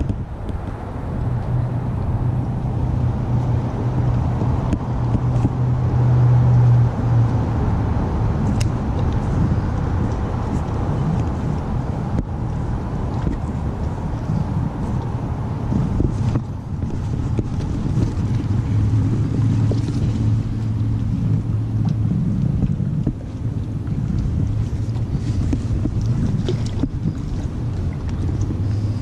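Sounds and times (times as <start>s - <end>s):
boat motor humming: 0.0s - 29.0s
wind and water rumble: 0.0s - 29.0s.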